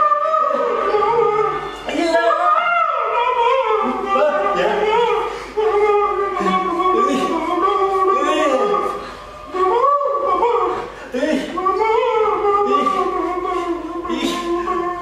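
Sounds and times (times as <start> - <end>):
person singing long wavering notes: 0.0 - 15.0.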